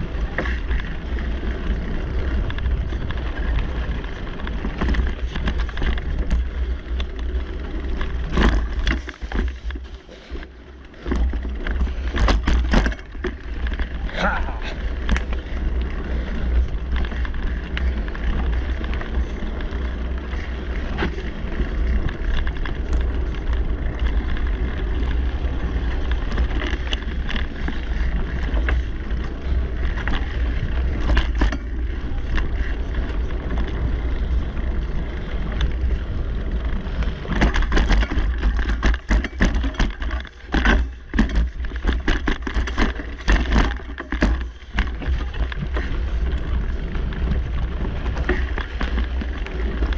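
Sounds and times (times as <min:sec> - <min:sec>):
bike rattling: 0:00.0 - 0:49.9
bike tyres on dirt: 0:00.0 - 0:49.9
bike knocking over rocks: 0:02.3 - 0:10.3, 0:10.9 - 0:34.8, 0:35.6 - 0:49.9.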